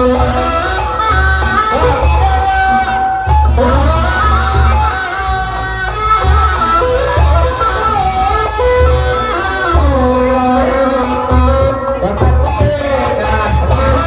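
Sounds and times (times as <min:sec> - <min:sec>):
deep drum beats: 0:00.0 - 0:14.0
melody with sliding pitches: 0:00.0 - 0:14.0.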